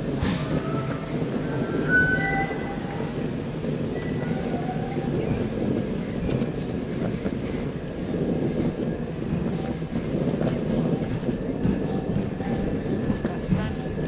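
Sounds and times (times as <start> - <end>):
steam train low rumble: 0.0 - 14.0.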